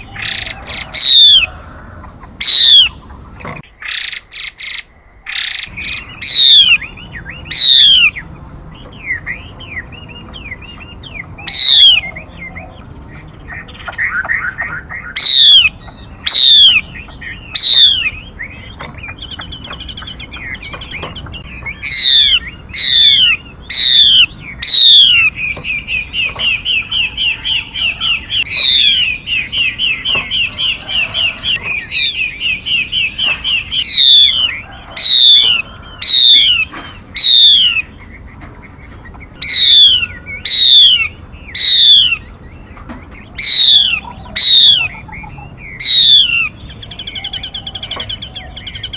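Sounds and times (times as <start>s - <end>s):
bird fast repeated notes: 0.0s - 1.5s, 2.1s - 47.5s.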